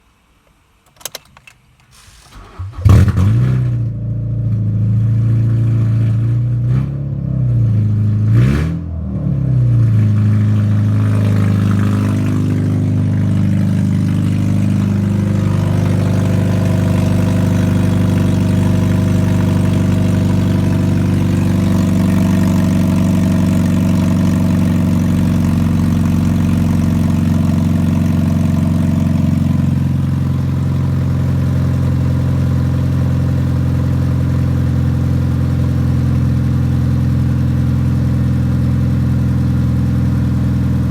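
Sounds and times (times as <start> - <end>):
car engine starting and revving: 2.1 - 40.9.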